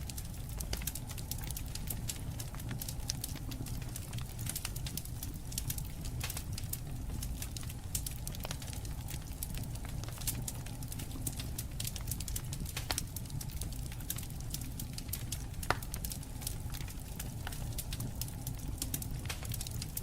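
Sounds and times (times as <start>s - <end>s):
campfire crackling: 0.0s - 20.0s
fire snaps and pops: 0.0s - 20.0s.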